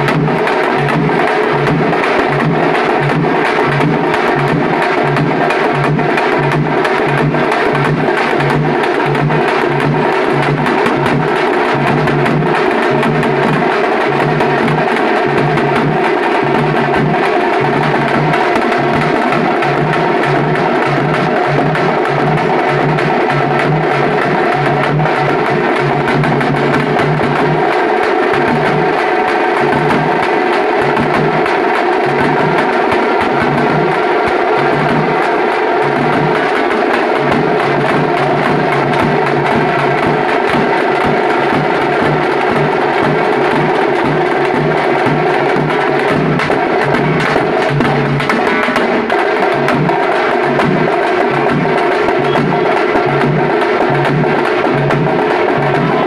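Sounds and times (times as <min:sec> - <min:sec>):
frame drums beaten with sticks: 0:00.0 - 0:56.0.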